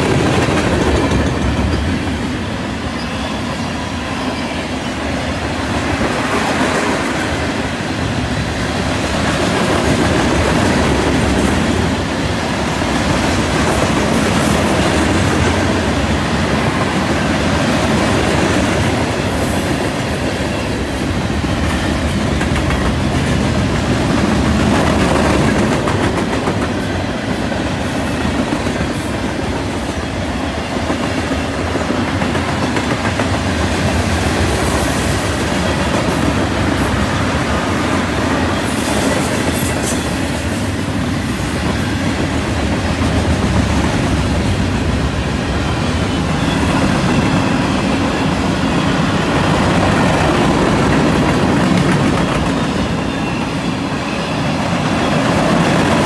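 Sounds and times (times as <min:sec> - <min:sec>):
freight train wheels clattering: 0:00.0 - 0:02.5, 0:05.6 - 0:56.0.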